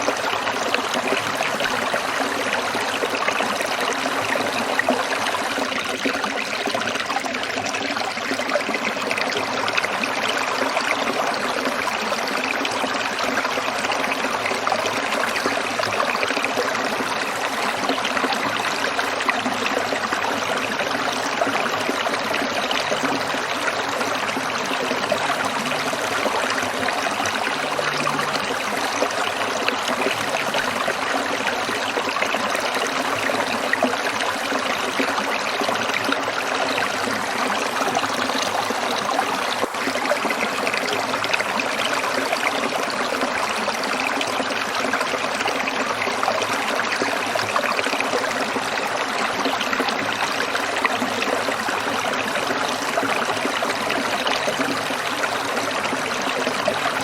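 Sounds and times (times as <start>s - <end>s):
stream water trickling over rocks: 0.0s - 57.0s.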